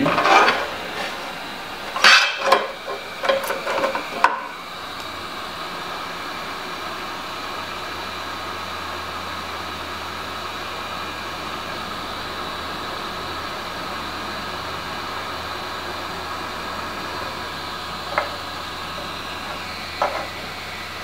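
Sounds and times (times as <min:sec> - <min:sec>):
faint hum: 0:00.0 - 0:21.0
hot-air station blowing hiss: 0:00.0 - 0:21.0.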